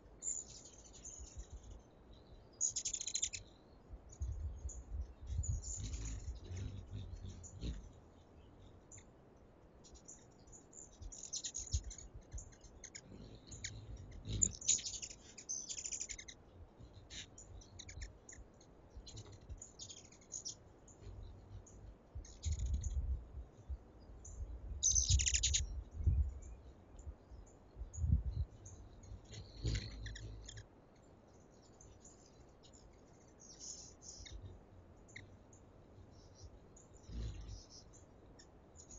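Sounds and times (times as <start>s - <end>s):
hummingbirds chipping and twittering: 0.0s - 38.9s.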